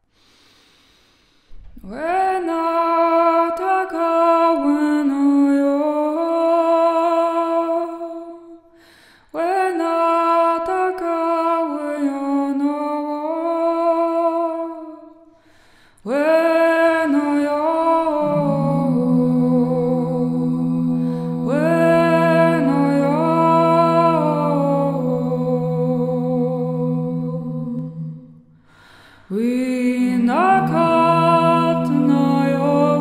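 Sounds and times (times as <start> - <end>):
woman singing wordless notes: 1.8 - 8.5, 9.4 - 15.0, 16.1 - 28.4, 29.3 - 33.0.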